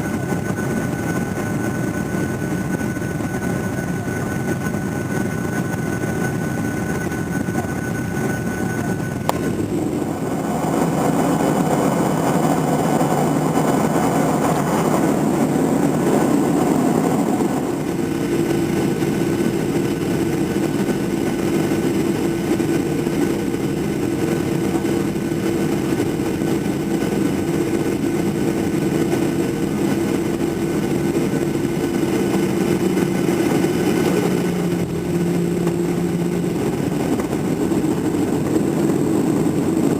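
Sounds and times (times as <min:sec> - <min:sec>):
hum of engine tones: 0:00.0 - 0:39.9
jet engine cabin rush: 0:00.0 - 0:39.9.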